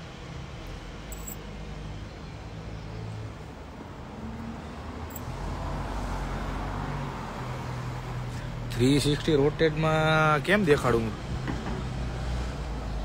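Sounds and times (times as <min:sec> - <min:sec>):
background road traffic: 0:00.0 - 0:13.0.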